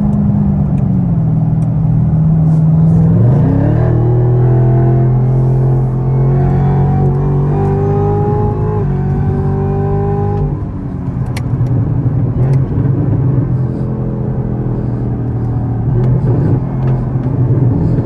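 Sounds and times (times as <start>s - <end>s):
car engine drone: 0.0s - 18.0s
supercharger whine: 0.0s - 18.0s.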